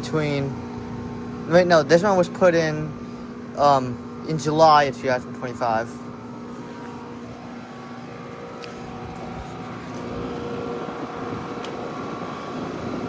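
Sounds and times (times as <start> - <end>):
heat pump units humming: 0.0 - 13.0.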